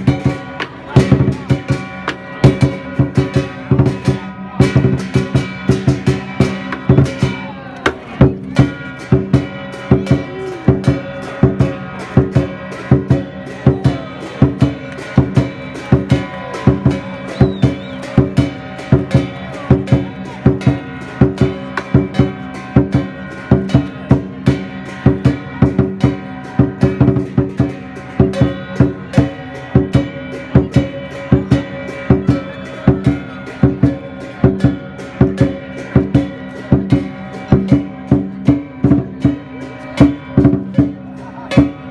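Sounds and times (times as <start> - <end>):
crashing cymbals: 0.0 - 41.9
large drum beating: 0.0 - 41.9.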